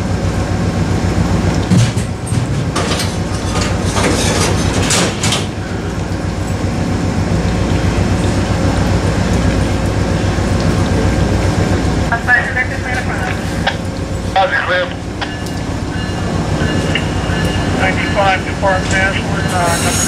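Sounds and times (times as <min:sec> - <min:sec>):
diesel train engine droning: 0:00.0 - 0:20.0.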